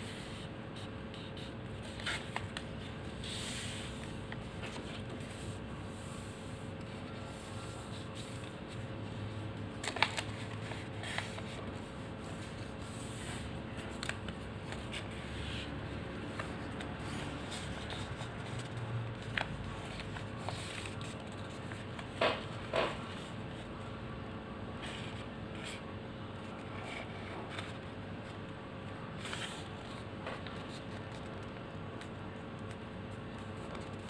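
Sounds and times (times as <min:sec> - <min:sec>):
paper rustling and crackling: 0:00.1 - 0:05.7, 0:06.3 - 0:23.7, 0:29.1 - 0:34.0.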